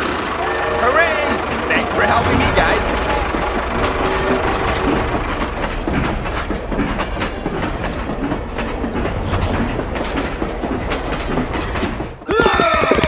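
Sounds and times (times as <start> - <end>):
train rumbling on track: 0.0 - 13.0
wheels clacking over rail joints: 0.0 - 13.0.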